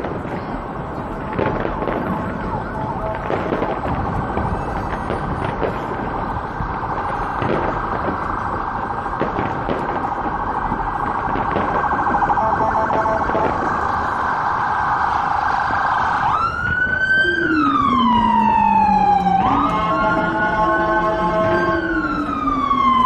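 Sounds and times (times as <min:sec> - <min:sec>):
emergency vehicle siren: 0:00.0 - 0:23.0.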